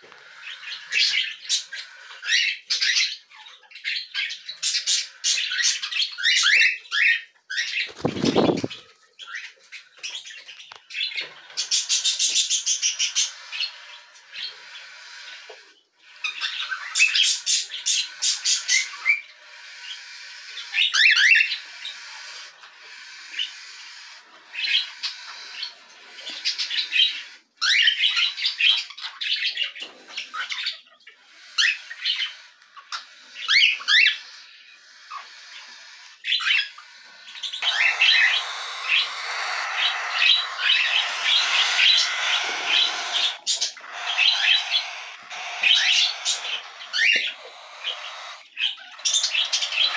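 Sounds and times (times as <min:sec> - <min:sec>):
cockatiels chirping and squawking: 0:00.0 - 0:49.9.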